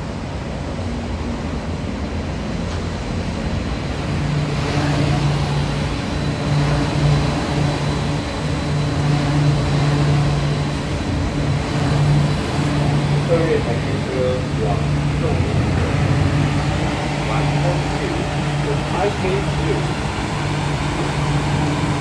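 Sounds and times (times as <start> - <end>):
metro train tyre rumble: 0.0 - 22.0
low motor hum: 2.9 - 22.0.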